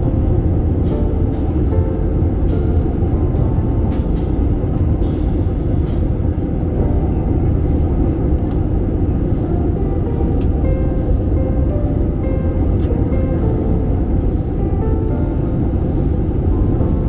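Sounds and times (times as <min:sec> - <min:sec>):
airliner cabin roar: 0:00.0 - 0:17.0
background music: 0:00.0 - 0:17.0.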